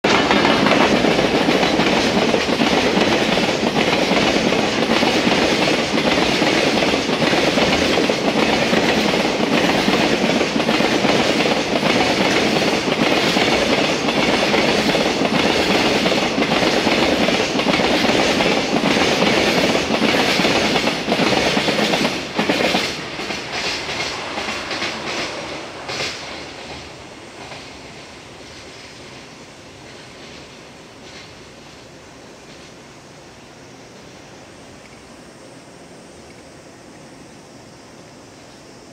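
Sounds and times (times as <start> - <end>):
train wheels clattering over rails: 0.0 - 31.8.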